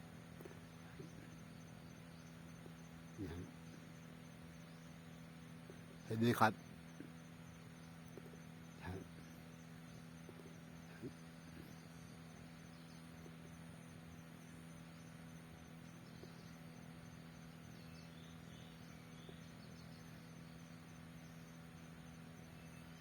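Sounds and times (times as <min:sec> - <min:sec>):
insects chirring: 0:00.0 - 0:23.0
low steady hum: 0:00.0 - 0:23.0.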